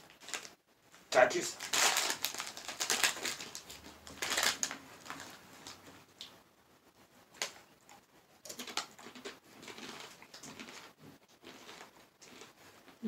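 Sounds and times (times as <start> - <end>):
plastic chip bag crinkling: 0.0 - 6.3, 7.3 - 7.7, 8.4 - 13.0.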